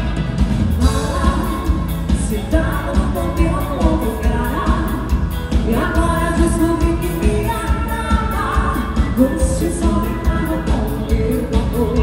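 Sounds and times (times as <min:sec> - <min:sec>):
drum kit beat: 0:00.0 - 0:12.0
guitar: 0:00.0 - 0:12.0
woman singing into a microphone: 0:00.8 - 0:12.0.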